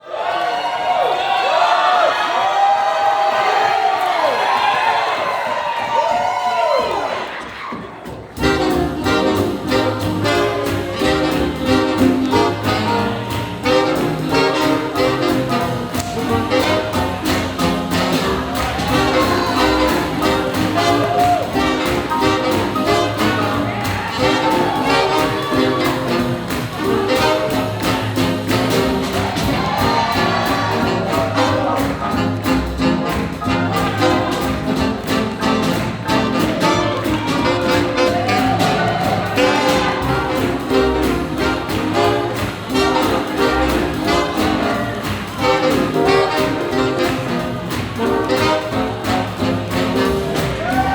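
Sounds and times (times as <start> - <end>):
big band swing jazz: 8.0 - 50.9.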